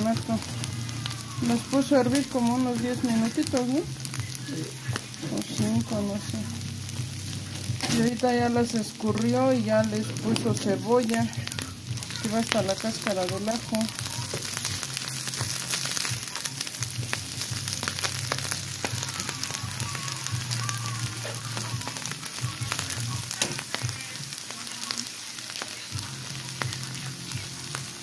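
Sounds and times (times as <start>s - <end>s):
food sizzling in a pan: 0.0s - 28.0s.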